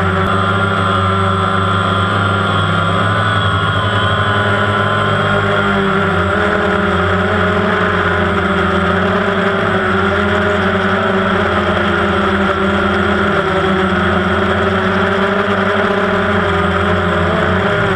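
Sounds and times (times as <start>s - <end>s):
drone propellers whirring: 0.0s - 17.9s.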